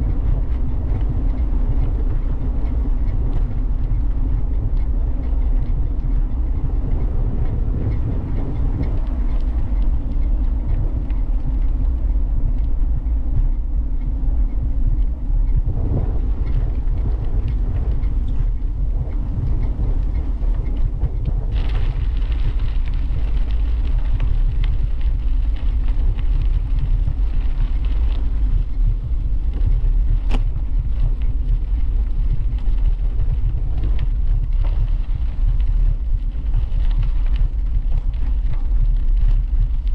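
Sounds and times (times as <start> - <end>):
bicycle tyre rumble: 0.0 - 39.9
wind buffeting microphone: 0.0 - 39.9.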